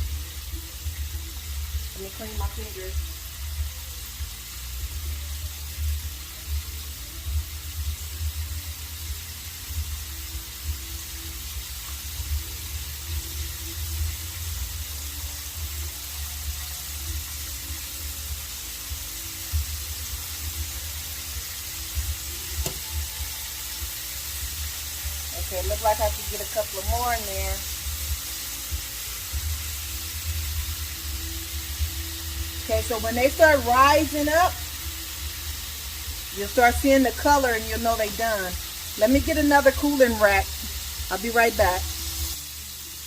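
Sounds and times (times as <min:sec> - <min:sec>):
chicken deep-frying in oil: 0:00.0 - 0:43.0.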